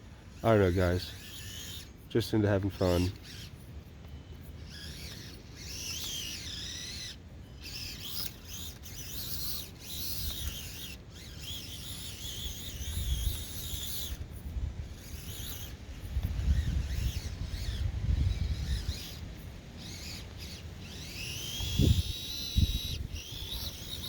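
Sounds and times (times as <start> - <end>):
small electric motor whining: 0.0 - 24.0.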